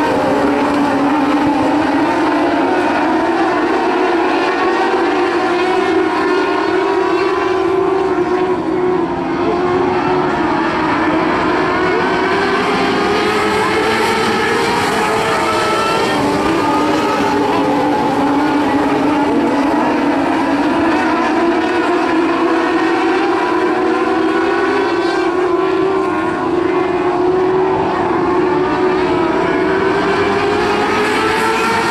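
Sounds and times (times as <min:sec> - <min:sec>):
race car engines: 0:00.0 - 0:31.9.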